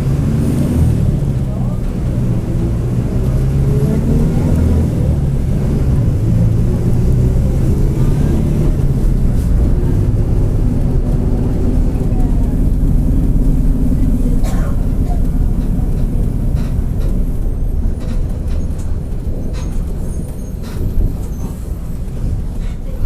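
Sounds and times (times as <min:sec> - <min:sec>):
bus diesel engine drone: 0:00.0 - 0:23.0.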